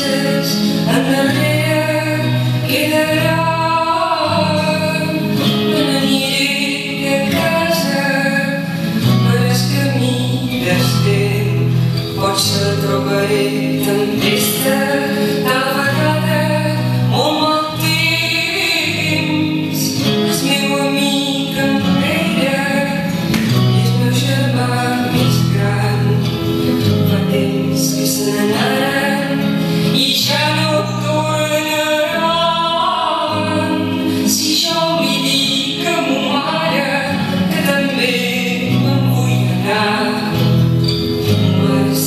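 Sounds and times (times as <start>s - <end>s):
music with singing: 0.0s - 42.0s.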